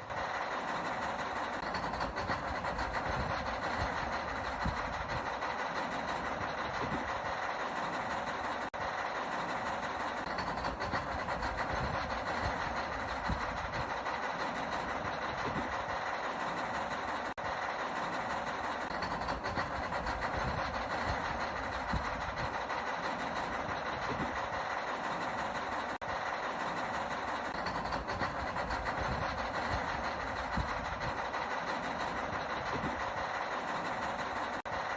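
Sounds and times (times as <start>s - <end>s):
toy excavator motors whirring: 0.0s - 34.9s.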